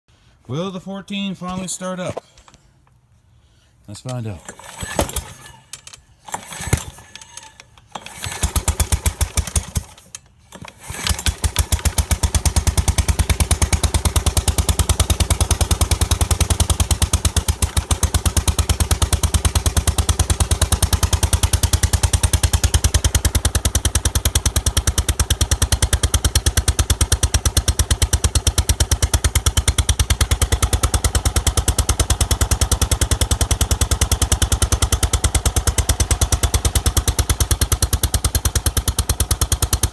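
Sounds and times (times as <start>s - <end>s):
small mower engine starting and running: 4.1s - 39.9s.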